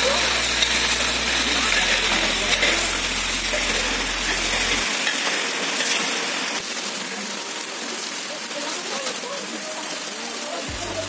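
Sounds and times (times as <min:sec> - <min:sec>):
meat and onions sizzling in oil: 0:00.0 - 0:11.0.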